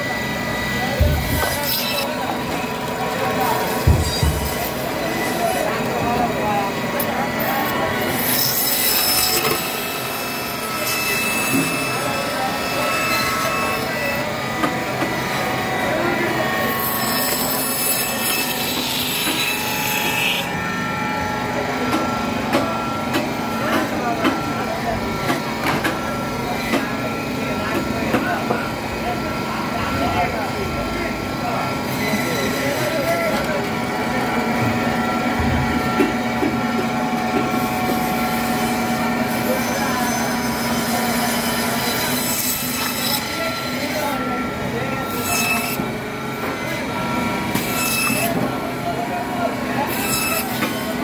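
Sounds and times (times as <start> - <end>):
electric band saw running: 0.0 - 29.0, 31.3 - 51.0.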